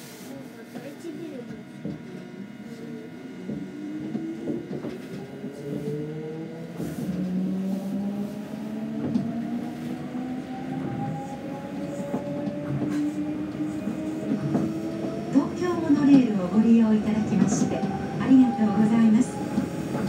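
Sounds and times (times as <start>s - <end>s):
station hum: 0.0s - 20.0s
train motors whining: 1.3s - 20.0s.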